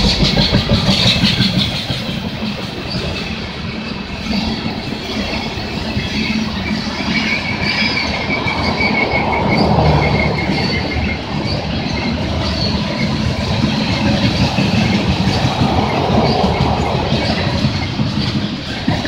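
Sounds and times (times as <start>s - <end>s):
high wheel squeal: 0.0s - 19.0s
steel wheels rumbling on rail: 0.0s - 19.0s.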